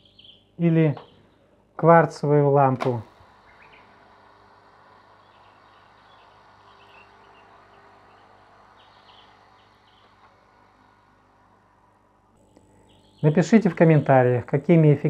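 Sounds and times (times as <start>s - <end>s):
faint chirping: 0.0s - 1.7s, 2.9s - 15.0s
low steady hum: 0.0s - 15.0s.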